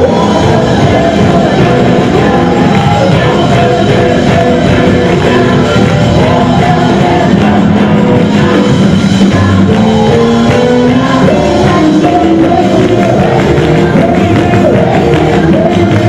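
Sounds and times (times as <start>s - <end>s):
band with guitars keyboard and drums: 0.0s - 16.0s
gospel singers: 0.0s - 16.0s.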